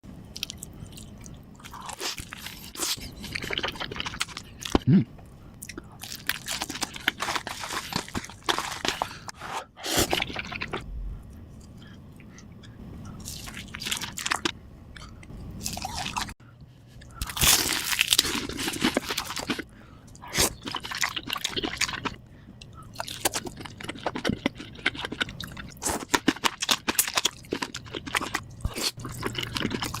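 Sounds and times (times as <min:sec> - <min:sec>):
person chewing crunchy food: 0:00.3 - 0:04.9, 0:05.6 - 0:16.4, 0:17.0 - 0:30.0.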